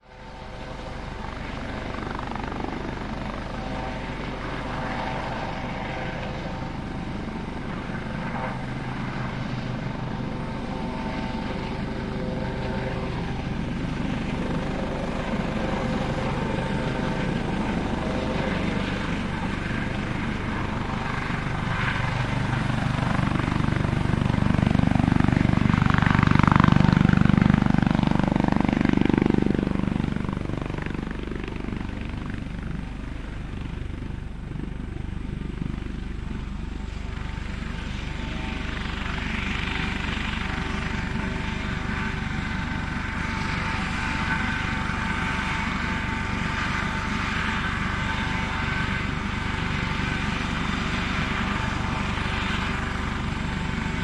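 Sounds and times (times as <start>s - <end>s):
helicopter rotor chop: 0.0s - 54.0s
helicopter turbine whine: 0.0s - 54.0s.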